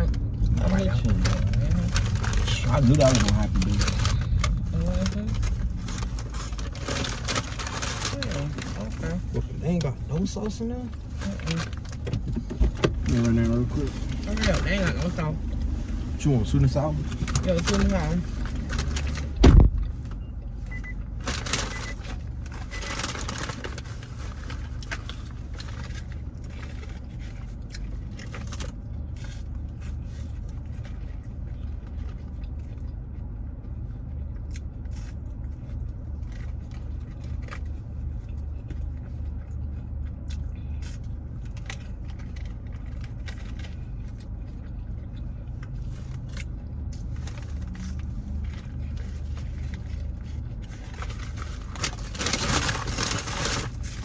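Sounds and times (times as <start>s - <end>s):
rustling and scraping: 0.0s - 32.9s, 40.6s - 54.0s
car engine idling: 0.0s - 54.0s.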